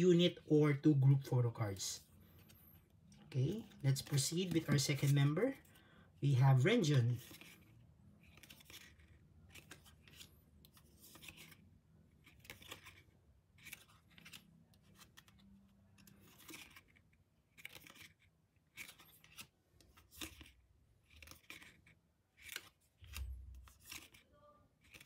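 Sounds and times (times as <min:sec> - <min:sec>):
cards scraping: 0:02.1 - 0:05.8, 0:06.8 - 0:25.0.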